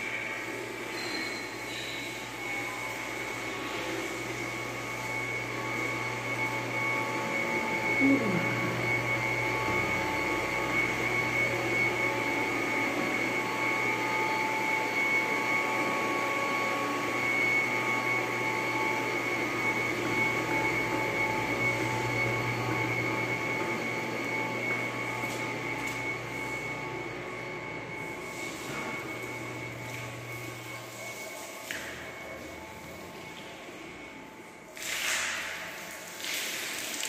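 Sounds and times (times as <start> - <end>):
machine humming with high whine: 0.0 - 37.0.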